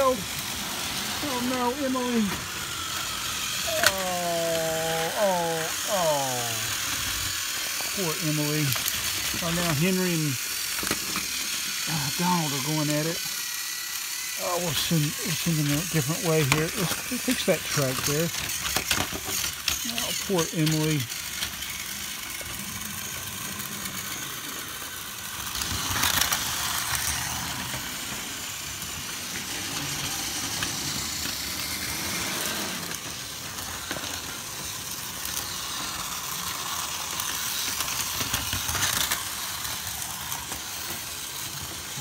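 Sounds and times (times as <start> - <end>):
toy train motors whirring: 0.0 - 42.0
wheels rattling on plastic track: 0.0 - 42.0.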